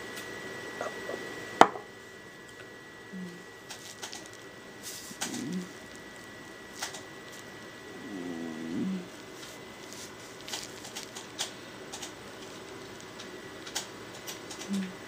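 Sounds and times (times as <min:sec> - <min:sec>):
faint hiss with high whine: 0:00.0 - 0:15.0.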